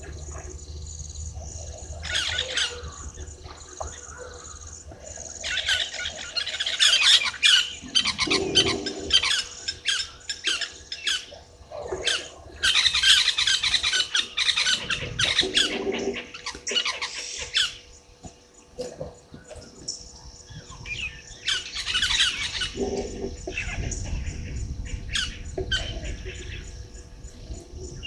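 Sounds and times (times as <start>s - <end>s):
birds squawking and chattering: 0.0s - 28.0s.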